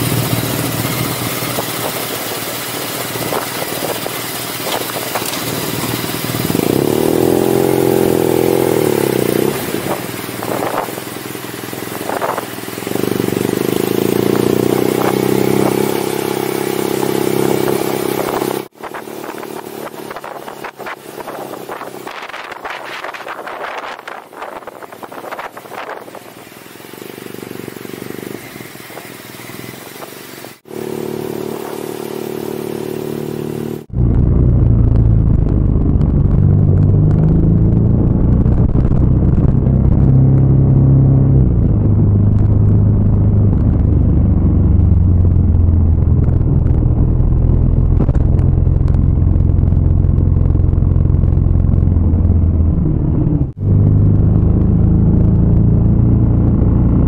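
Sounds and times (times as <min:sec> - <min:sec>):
wind noise on microphone: 0:00.0 - 0:11.0, 0:11.9 - 0:16.0, 0:16.8 - 0:26.3, 0:33.8 - 0:57.0
motorcycle engine running: 0:00.0 - 0:57.0.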